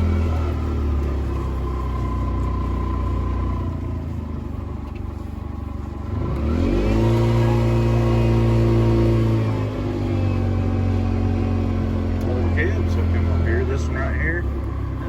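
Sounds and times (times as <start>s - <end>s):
vehicle engine running and revving: 0.0s - 15.0s.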